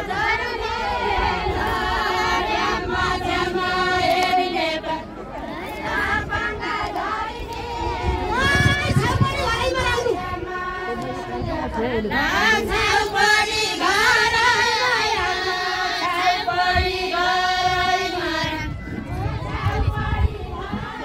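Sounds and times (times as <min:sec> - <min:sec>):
women singing folk song: 0:00.0 - 0:21.0.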